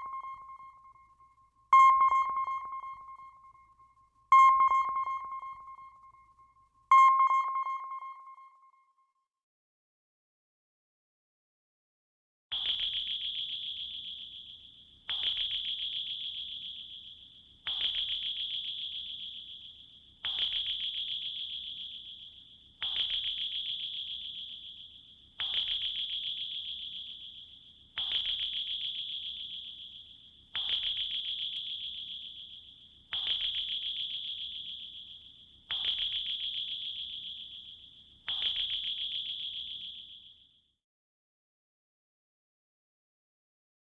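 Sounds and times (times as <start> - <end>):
sonar ping: 0.0 - 9.0, 12.5 - 40.8.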